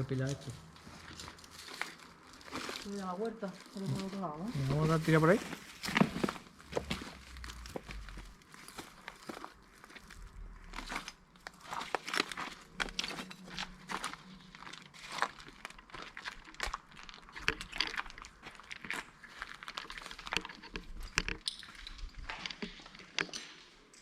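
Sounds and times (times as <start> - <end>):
footsteps crunching over debris: 0.0 - 24.0.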